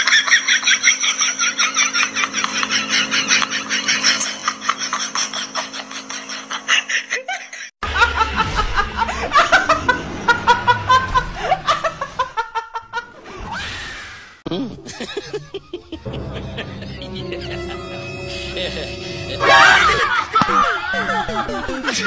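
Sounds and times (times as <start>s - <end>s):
woman laughing hard: 0.0s - 13.2s, 14.8s - 22.0s.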